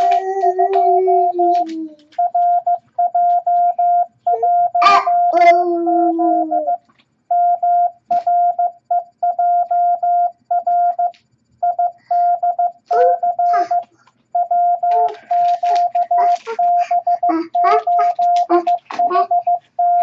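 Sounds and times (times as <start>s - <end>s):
morse code beeps: 0.0s - 1.6s, 2.2s - 20.0s.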